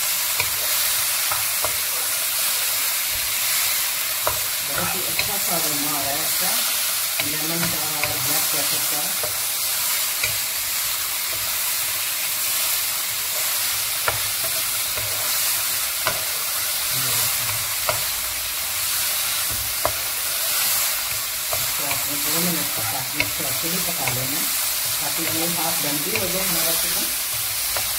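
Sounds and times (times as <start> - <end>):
chicken sizzling in oil: 0.0 - 27.9.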